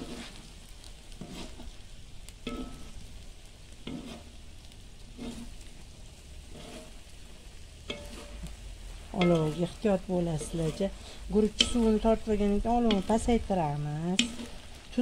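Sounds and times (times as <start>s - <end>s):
metal skimmer scraping rice: 0.0s - 1.8s, 2.4s - 3.1s, 3.7s - 5.8s, 6.4s - 15.0s
rice sizzling in oil: 0.0s - 15.0s.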